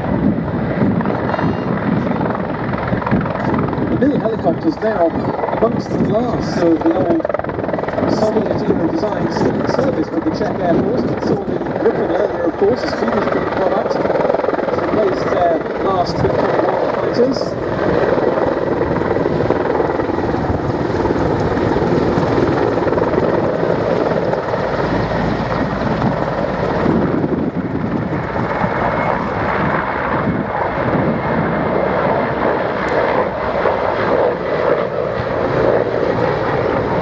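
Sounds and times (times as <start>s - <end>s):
helicopter turbines and rotors droning: 0.0s - 37.0s.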